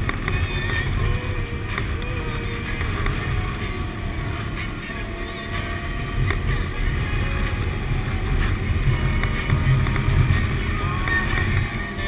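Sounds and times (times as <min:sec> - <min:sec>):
atv engine running: 0:00.0 - 0:12.0
wind rumble on microphone: 0:00.0 - 0:12.0.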